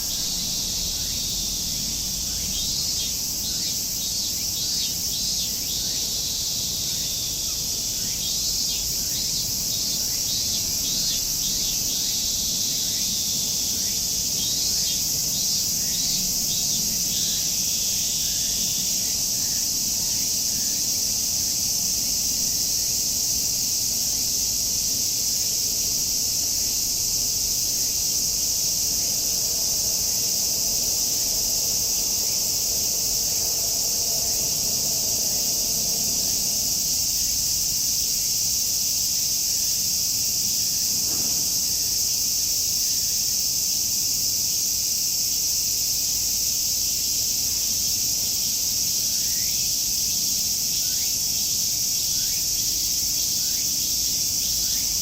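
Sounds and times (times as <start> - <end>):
cicadas singing: 0.0 - 55.0.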